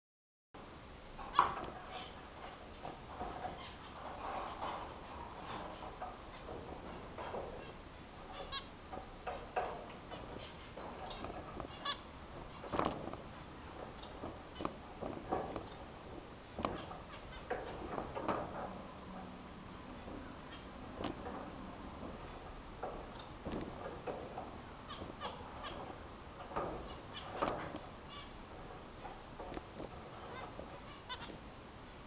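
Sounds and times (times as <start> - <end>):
zebra finches calling: 1.3 - 31.5.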